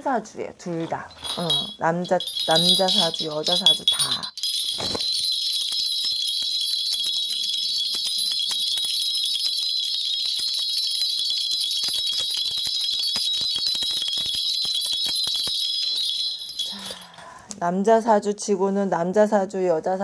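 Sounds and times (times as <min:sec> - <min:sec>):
jingle bells shaken: 0:00.7 - 0:17.5.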